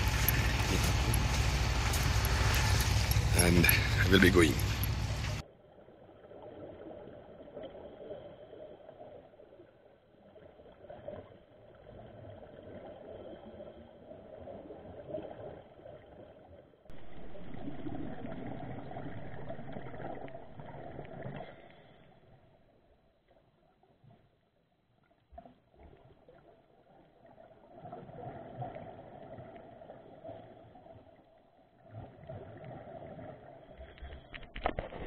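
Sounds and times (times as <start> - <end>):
underwater bubbling and gurgling: 0.0 - 35.0.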